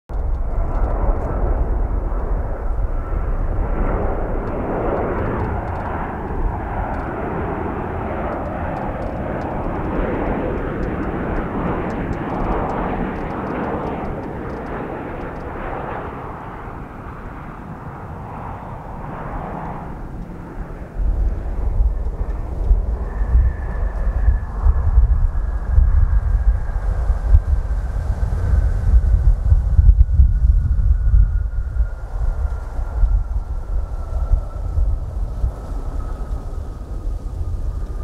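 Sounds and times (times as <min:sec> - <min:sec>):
jet engines rumbling: 0:00.1 - 0:38.0.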